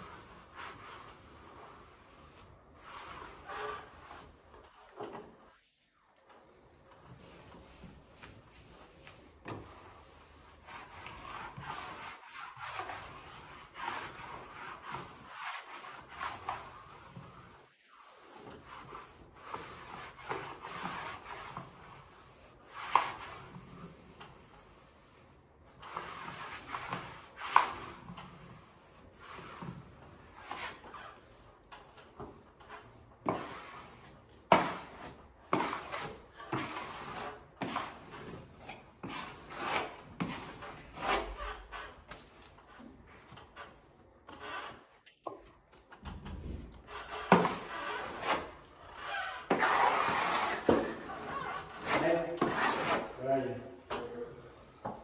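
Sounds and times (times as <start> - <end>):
sharp scrapes on wall: 0.0 - 5.7, 6.9 - 55.0
rubbing strokes on papered wall: 0.0 - 55.0.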